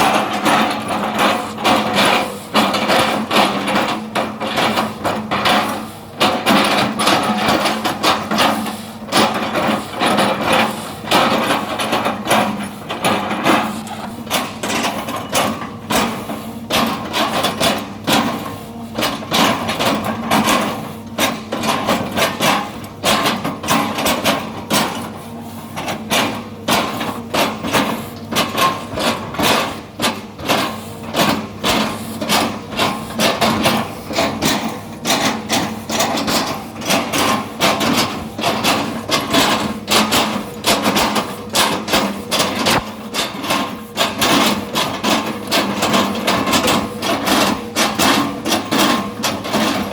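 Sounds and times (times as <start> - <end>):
excavator hum: 0.0 - 49.9.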